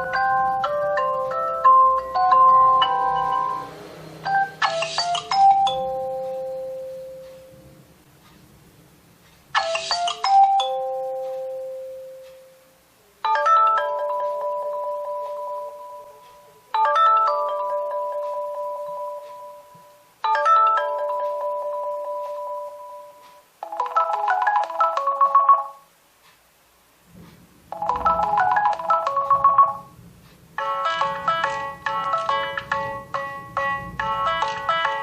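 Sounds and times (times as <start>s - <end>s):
bell-like phone chime: 0.0s - 7.6s, 9.6s - 12.5s, 13.2s - 25.9s, 27.7s - 30.0s, 30.6s - 35.0s
phone ringtone melody: 0.0s - 7.7s, 9.6s - 12.6s, 13.2s - 25.9s, 27.7s - 30.0s, 30.6s - 35.0s.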